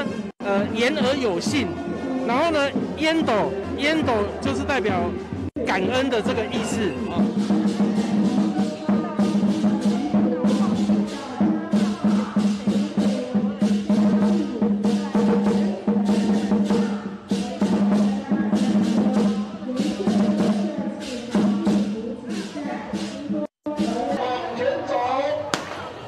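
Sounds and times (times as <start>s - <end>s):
drum beating: 0.0s - 24.3s.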